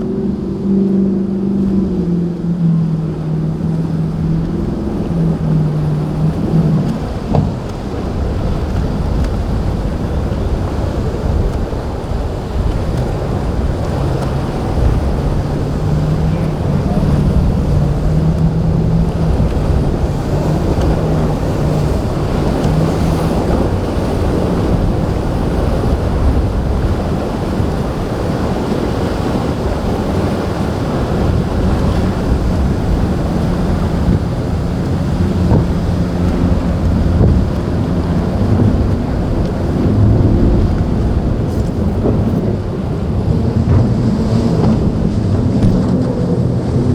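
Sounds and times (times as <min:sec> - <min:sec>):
boat engines running: 0:00.0 - 0:46.9
waves washing: 0:00.0 - 0:46.9
wind buffeting microphone: 0:00.0 - 0:46.9.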